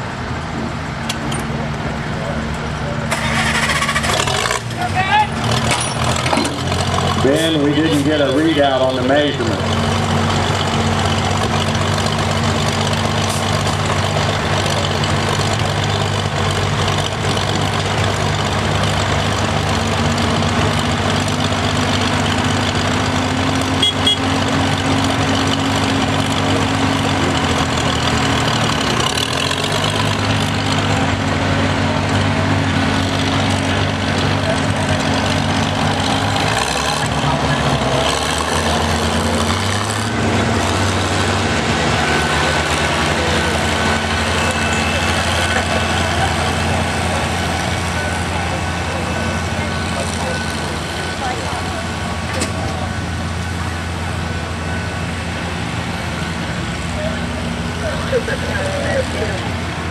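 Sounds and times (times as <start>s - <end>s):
engine running at low speed: 0.0s - 59.9s.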